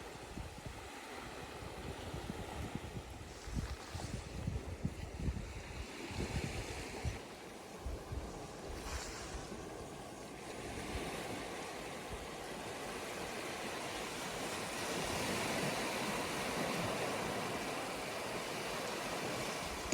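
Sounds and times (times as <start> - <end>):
sea waves breaking on beach: 0.0 - 19.9.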